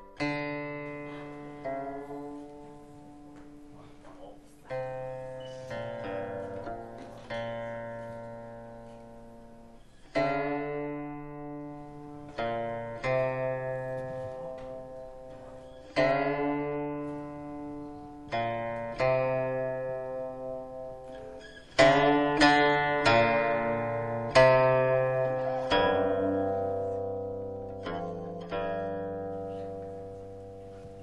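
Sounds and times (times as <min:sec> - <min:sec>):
plucked string instrument music: 0:00.0 - 0:31.0.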